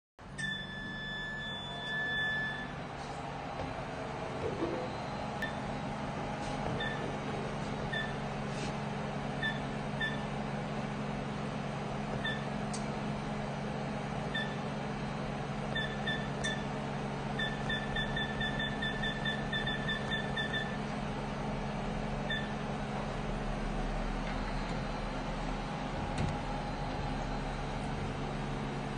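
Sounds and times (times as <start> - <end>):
steady low hum: 0.2 - 28.9.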